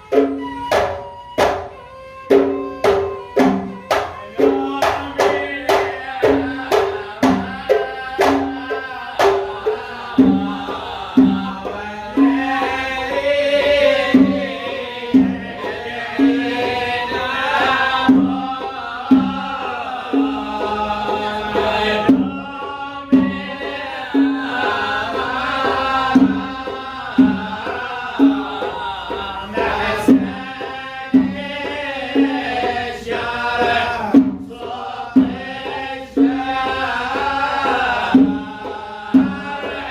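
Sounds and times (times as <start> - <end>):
hand drums beating: 0.0 - 39.9
people singing: 0.0 - 39.9.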